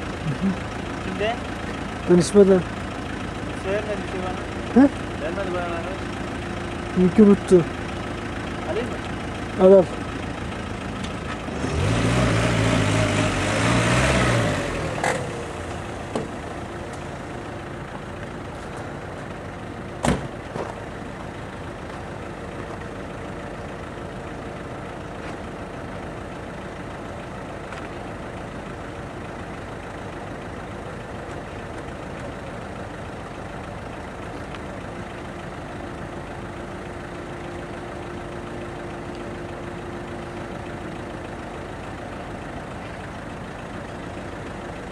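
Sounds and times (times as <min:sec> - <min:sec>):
truck engine running: 0:00.0 - 0:44.9.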